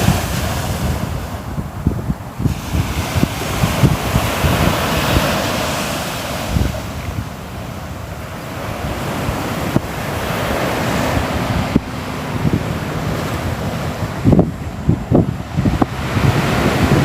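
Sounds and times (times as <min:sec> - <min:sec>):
sea waves breaking on shore: 0:00.0 - 0:17.0
wind rumbling on microphone: 0:00.0 - 0:17.0.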